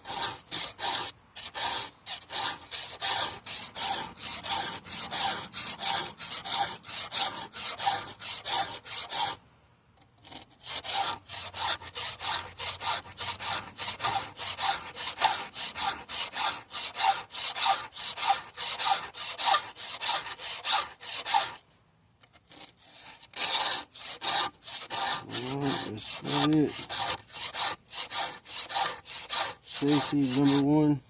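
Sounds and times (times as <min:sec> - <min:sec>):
file scraping chainsaw chain: 0:00.0 - 0:09.4, 0:10.2 - 0:21.6, 0:22.3 - 0:31.0.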